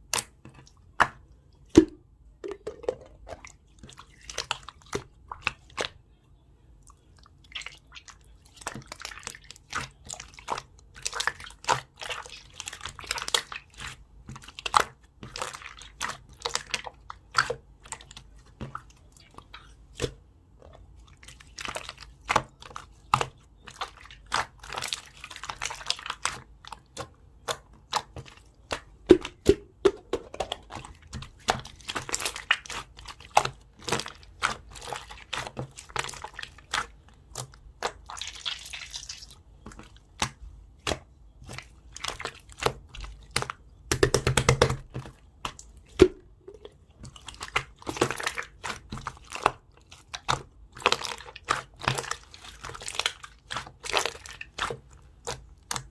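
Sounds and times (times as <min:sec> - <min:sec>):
slime squelch: 0:00.0 - 0:55.9
sticky slime crackles: 0:07.0 - 0:29.6, 0:30.3 - 0:55.9.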